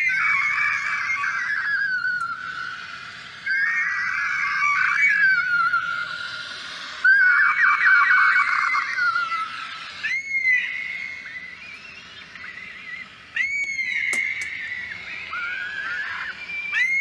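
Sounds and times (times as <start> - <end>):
bird screeching: 0.0 - 17.0.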